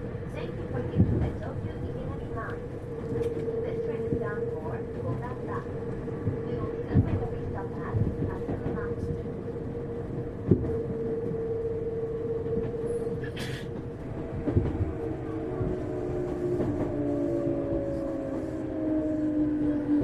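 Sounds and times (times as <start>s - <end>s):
train wheel rumble: 0.0s - 20.0s.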